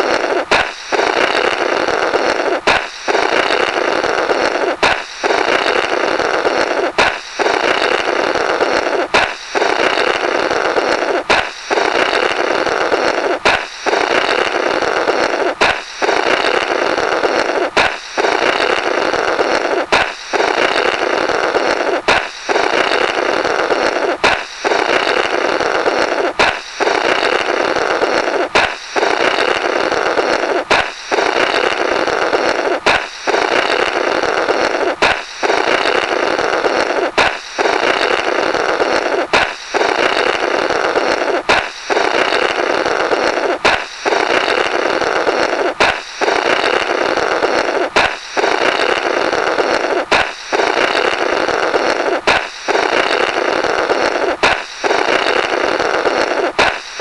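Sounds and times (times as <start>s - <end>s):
balloon popping: 0.0s - 57.0s
buzzy flapping balloon blow: 0.0s - 57.0s.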